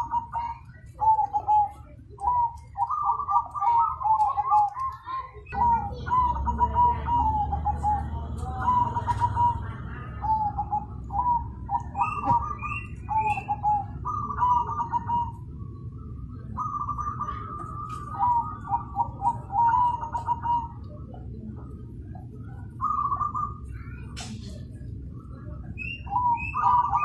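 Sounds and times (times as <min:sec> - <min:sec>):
dove cooing trilled phrases: 0:00.0 - 0:27.0
steady low background hum: 0:00.0 - 0:27.0.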